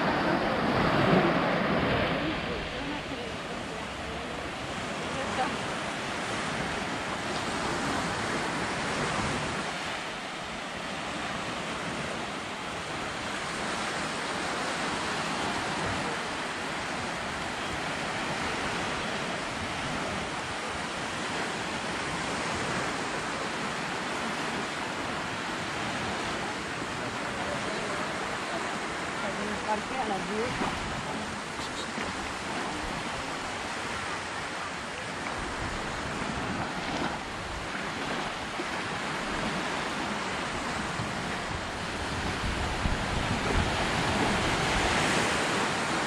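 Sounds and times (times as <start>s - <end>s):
small waves washing onto sand: 0.0s - 46.0s.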